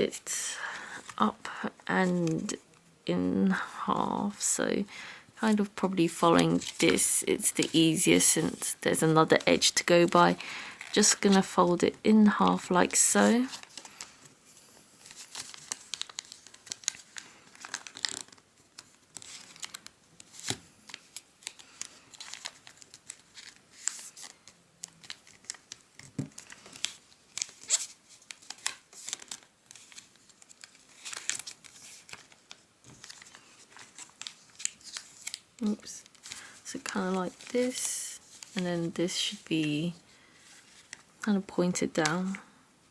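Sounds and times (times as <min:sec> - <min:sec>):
paper being folded and creased: 0:05.5 - 0:11.9, 0:12.9 - 0:41.1.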